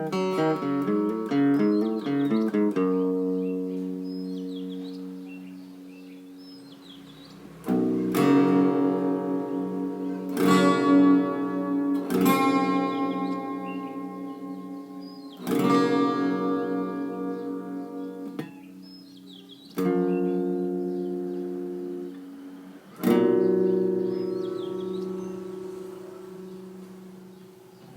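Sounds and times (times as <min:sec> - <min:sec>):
acoustic guitar chords strummed: 0:00.0 - 0:27.9.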